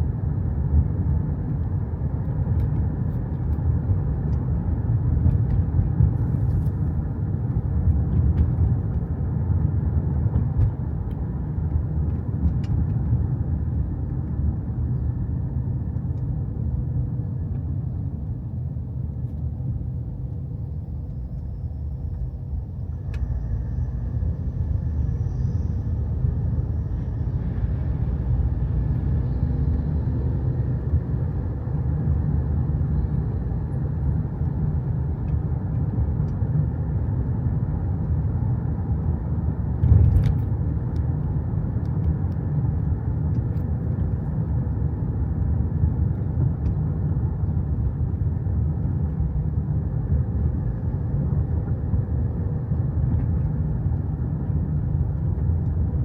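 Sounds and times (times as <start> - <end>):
car rumbling on road: 0.0 - 56.0.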